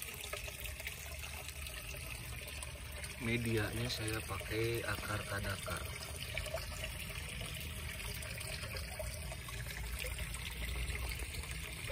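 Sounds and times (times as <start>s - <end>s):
water trickling: 0.0s - 11.9s.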